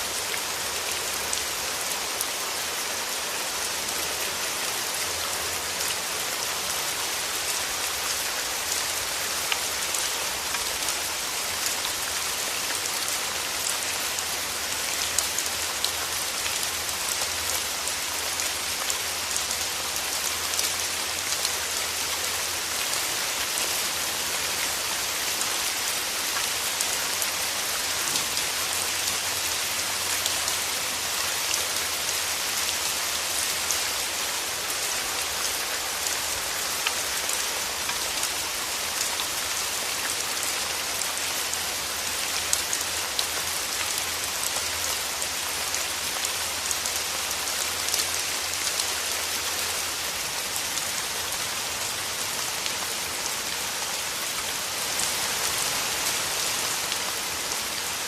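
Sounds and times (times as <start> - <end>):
rain falling through trees: 0.0 - 58.0.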